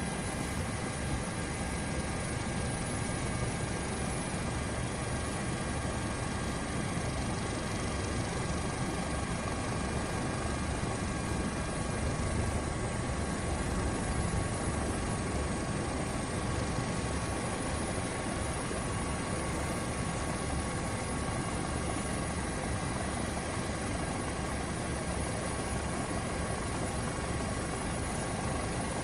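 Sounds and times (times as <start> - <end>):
aircraft engine and rotor drone: 0.0 - 29.0.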